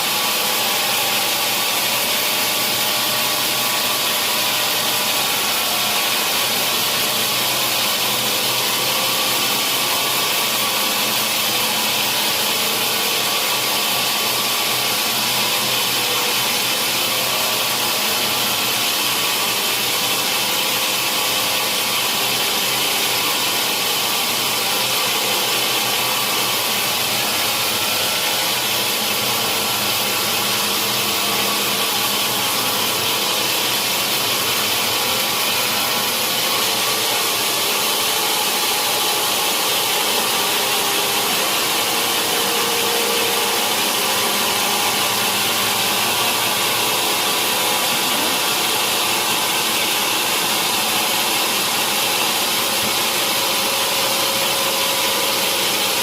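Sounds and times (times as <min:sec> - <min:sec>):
sawmill saw cutting log: 0:00.0 - 0:56.0.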